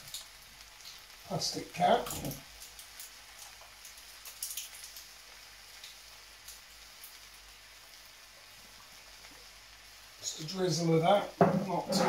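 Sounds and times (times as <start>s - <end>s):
beef sizzling in a wok: 0.0s - 12.0s.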